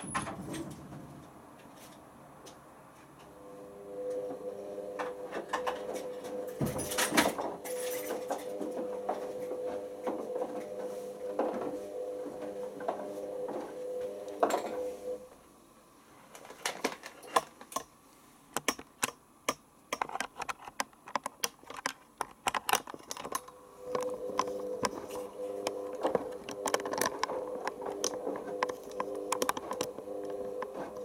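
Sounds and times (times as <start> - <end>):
washing machine motor hum: 0.0 - 18.5, 22.2 - 31.0.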